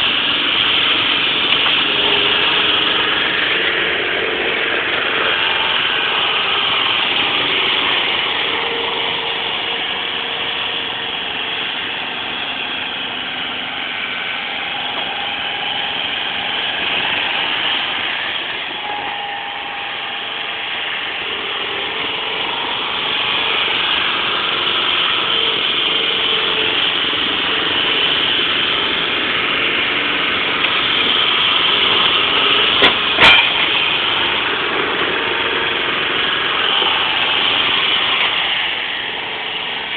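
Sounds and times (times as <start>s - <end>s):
forklift engine running: 0.0s - 39.9s.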